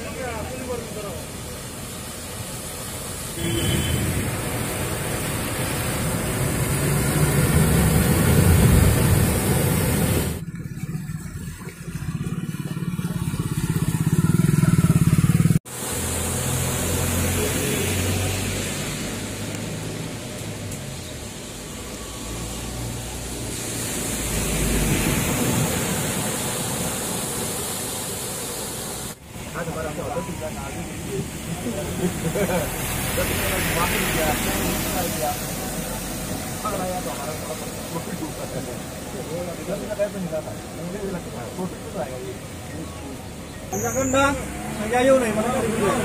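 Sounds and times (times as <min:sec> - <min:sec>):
water rushing and splashing: 0:00.0 - 0:46.0.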